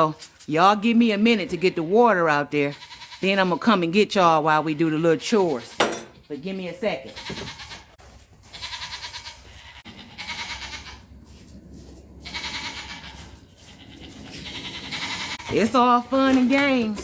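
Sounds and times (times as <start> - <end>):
goats bleating: 1.2 - 3.6, 4.6 - 11.1, 12.2 - 17.0.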